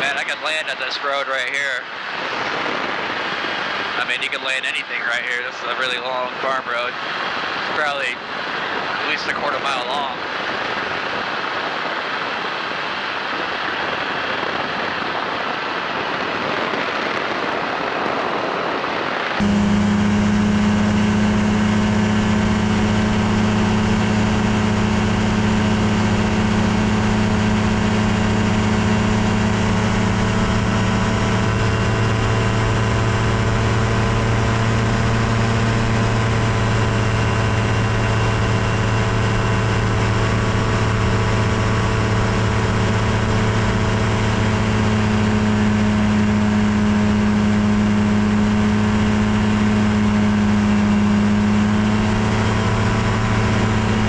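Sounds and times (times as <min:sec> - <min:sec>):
light airplane engine and propeller: 0:00.0 - 0:54.0.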